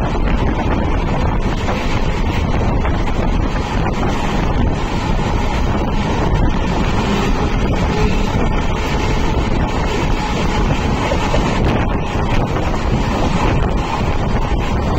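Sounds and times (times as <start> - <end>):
train running rumble: 0.0 - 14.9
wind rushing on microphone: 0.0 - 14.9.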